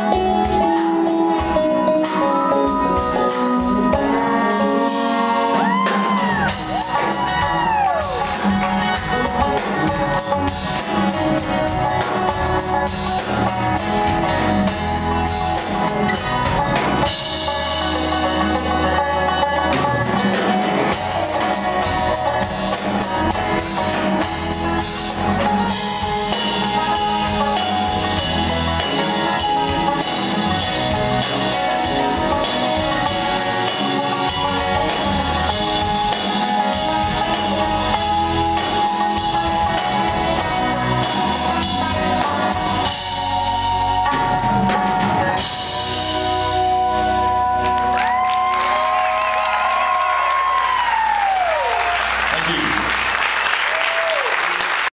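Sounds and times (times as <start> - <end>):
banjo: 0.0 - 48.5
drum kit: 0.0 - 54.9
live band playing instrumental: 0.0 - 54.9.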